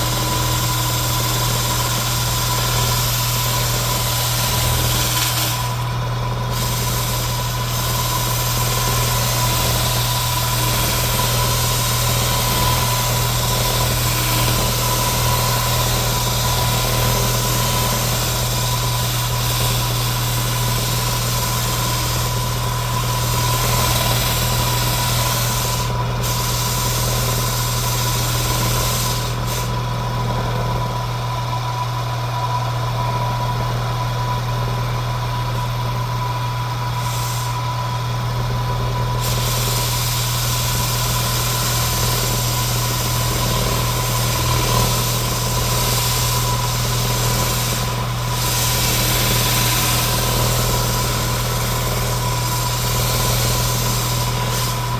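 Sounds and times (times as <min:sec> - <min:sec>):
power sander running: 0:00.0 - 0:34.1, 0:38.7 - 0:54.9.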